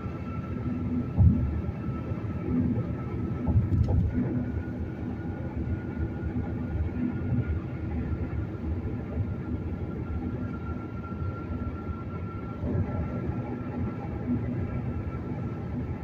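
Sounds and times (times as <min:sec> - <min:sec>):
car road noise: 0:00.0 - 0:16.0.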